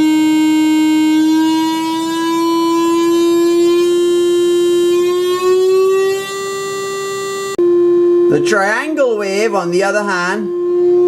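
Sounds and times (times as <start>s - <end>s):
buzzy synthesizer square-wave note: 0.0s - 11.0s.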